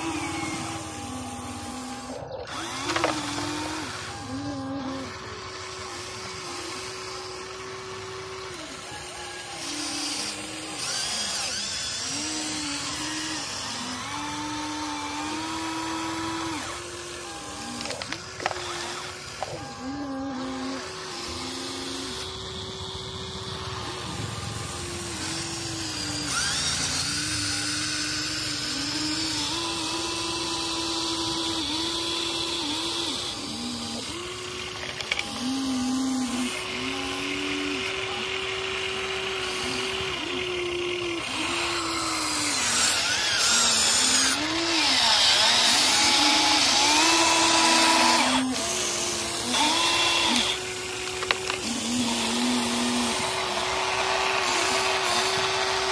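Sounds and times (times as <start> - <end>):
toy excavator motors whining: 0.0 - 55.9.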